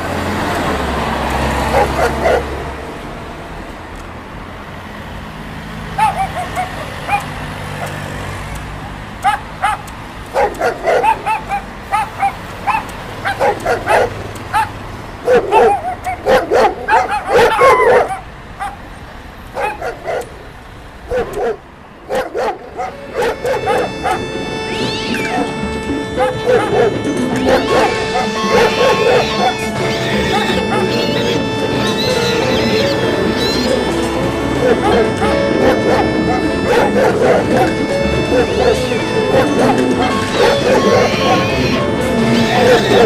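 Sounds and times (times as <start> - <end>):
dogs barking and yipping: 0.0 - 3.1, 5.8 - 43.0.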